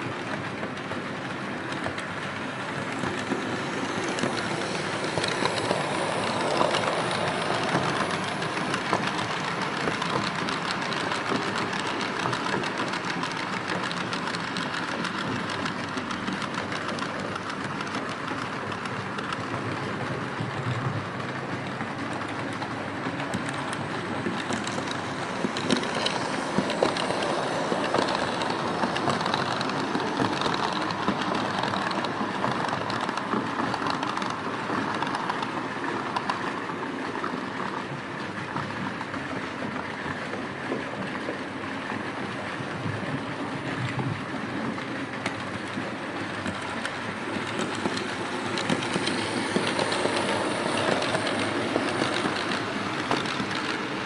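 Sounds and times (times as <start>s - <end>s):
model train wheels rattling on track: 0.0s - 54.0s.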